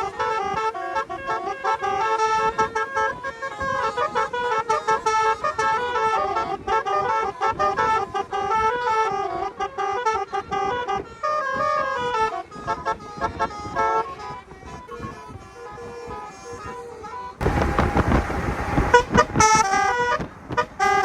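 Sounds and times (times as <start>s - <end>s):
car horns playing a melody: 0.0s - 21.0s.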